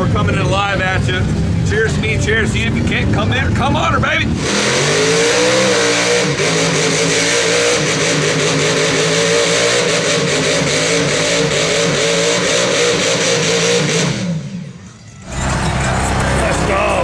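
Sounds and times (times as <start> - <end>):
truck engine revving high: 0.0 - 17.0.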